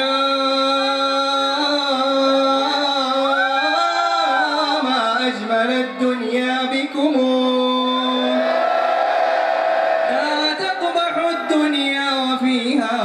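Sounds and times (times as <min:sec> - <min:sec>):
man singing into a microphone: 0:00.0 - 0:08.5, 0:10.1 - 0:13.0.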